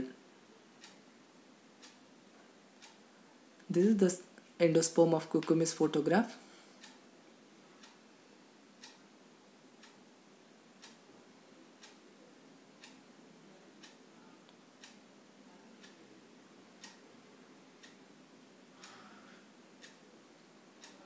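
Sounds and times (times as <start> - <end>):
room hiss: 0.0 - 21.0
clock ticking: 0.7 - 6.1, 6.7 - 15.2, 15.8 - 21.0.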